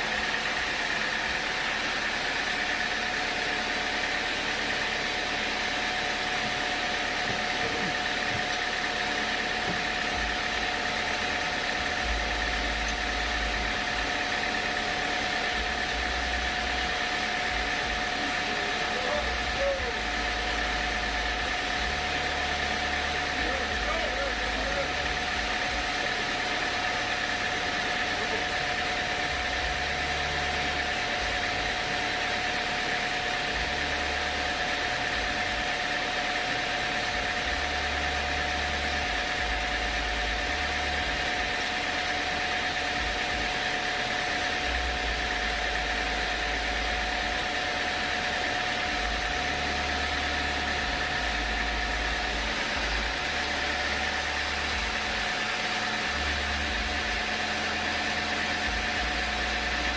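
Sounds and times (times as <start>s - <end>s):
sawmill machinery whining: 0.0s - 59.9s.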